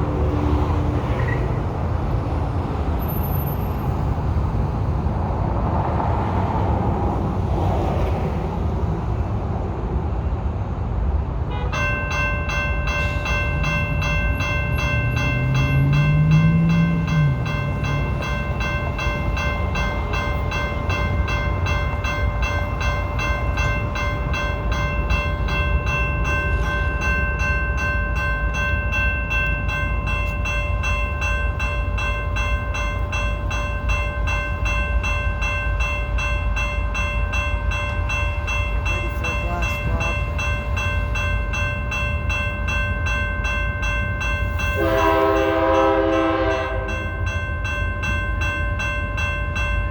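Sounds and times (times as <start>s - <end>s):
railroad crossing bell ringing: 0.0s - 4.8s, 11.4s - 49.9s
train passing rumble: 0.0s - 49.9s.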